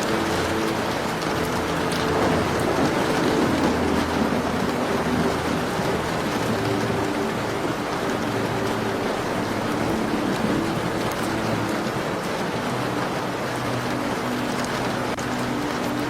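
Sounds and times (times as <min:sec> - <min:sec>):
steady rain falling: 0:00.0 - 0:16.0
wood fire crackling: 0:00.0 - 0:16.0.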